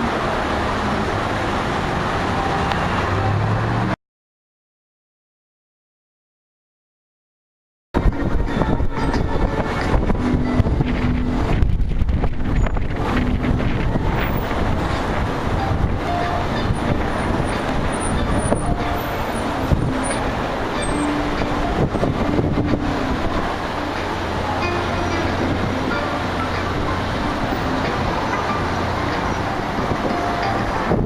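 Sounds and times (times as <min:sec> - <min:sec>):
dense city traffic: 0:00.0 - 0:04.0, 0:08.0 - 0:31.0.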